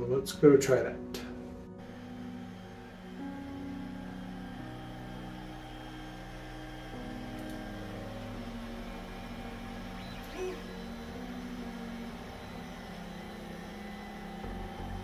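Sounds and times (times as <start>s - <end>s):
high motor whine: 1.2s - 15.0s
stepper motors whirring: 1.8s - 15.0s.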